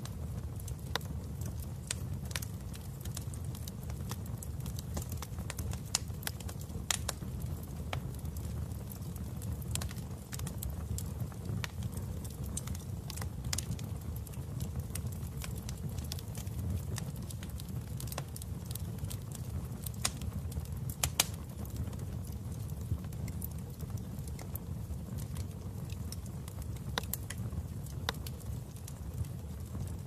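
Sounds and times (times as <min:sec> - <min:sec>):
low rumble of flames: 0:00.0 - 0:30.0
wood fire crackling and popping: 0:00.0 - 0:30.0.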